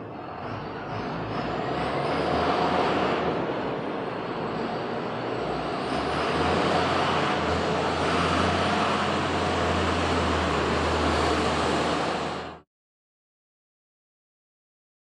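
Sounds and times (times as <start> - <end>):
tractor diesel engine running: 0.0 - 12.6.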